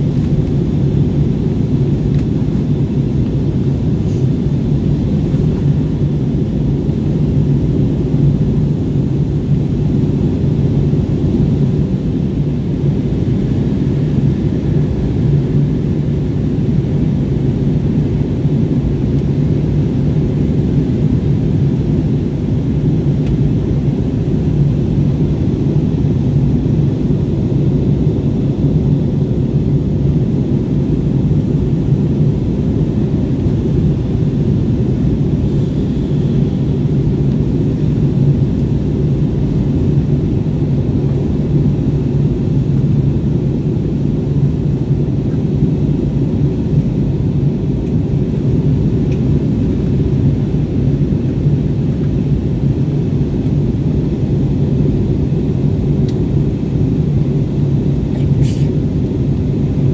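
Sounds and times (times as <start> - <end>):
constant low hum: 0.0 - 59.9
jet engine cabin drone: 0.0 - 59.9.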